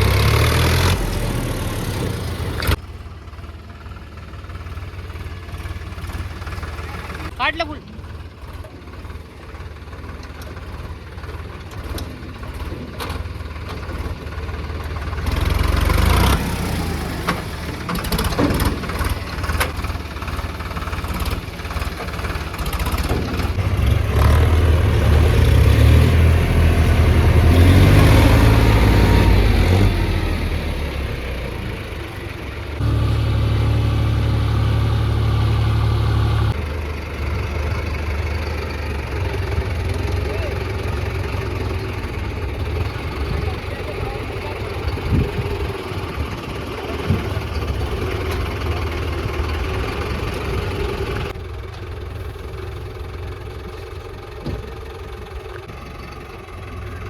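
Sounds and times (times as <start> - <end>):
diesel tractor engine revving: 0.0 - 57.0.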